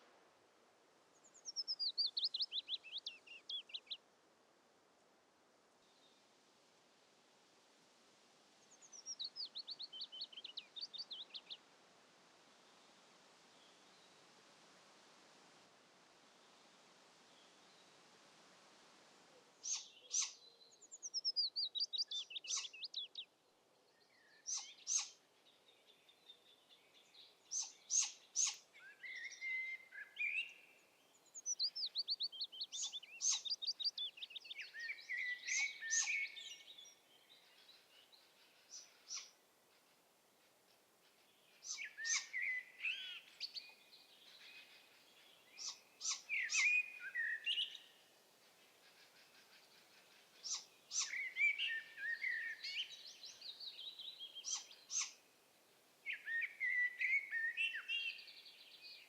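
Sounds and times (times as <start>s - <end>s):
songbirds singing: 0.0s - 4.8s, 5.4s - 59.0s.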